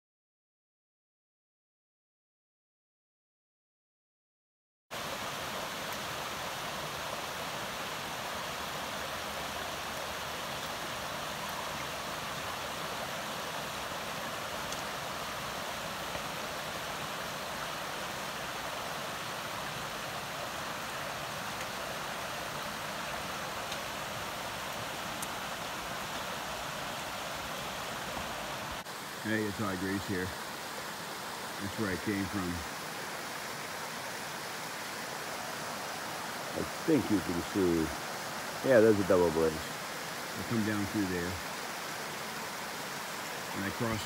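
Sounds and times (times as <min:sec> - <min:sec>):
brook running: 0:04.9 - 0:44.0.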